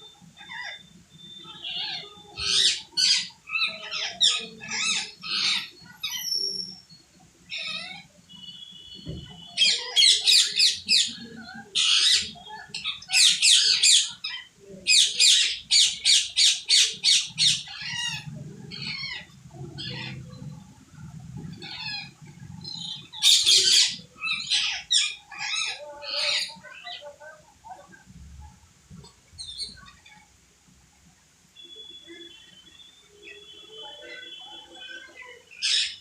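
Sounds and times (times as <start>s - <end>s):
parrots squawking: 0.1s - 28.0s, 33.2s - 36.0s.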